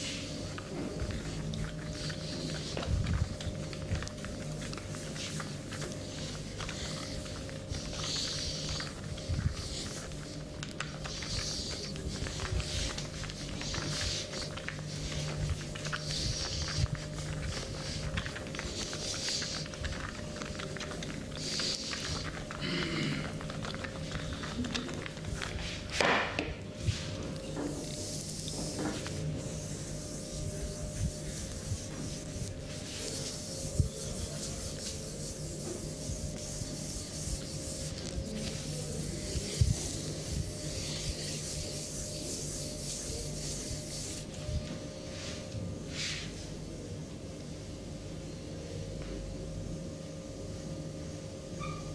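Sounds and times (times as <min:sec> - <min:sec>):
faint steady hum: 0:00.0 - 0:51.9
hands rubbing skin: 0:00.1 - 0:26.0, 0:27.7 - 0:44.3.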